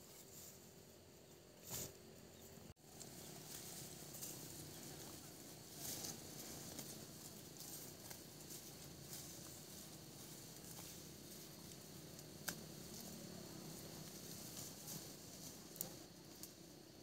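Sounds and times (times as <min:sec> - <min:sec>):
small crackles: 0:02.8 - 0:17.0.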